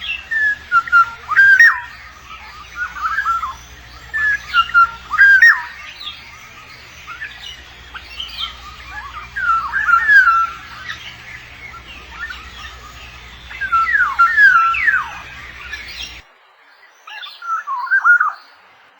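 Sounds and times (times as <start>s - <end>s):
bird whistled calls: 0.0s - 16.3s.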